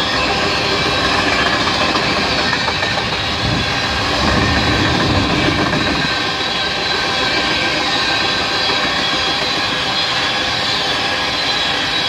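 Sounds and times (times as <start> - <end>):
freight train wheels clattering on rails: 0.0 - 12.0.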